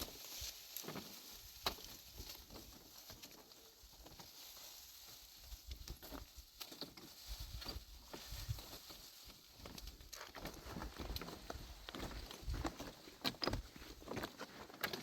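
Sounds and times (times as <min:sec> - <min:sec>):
light clicks and rustles: 0:00.0 - 0:15.0.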